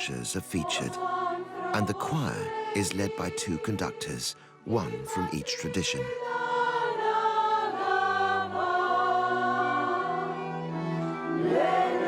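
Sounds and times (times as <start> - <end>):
choir singing sustained chords: 0.0 - 12.0.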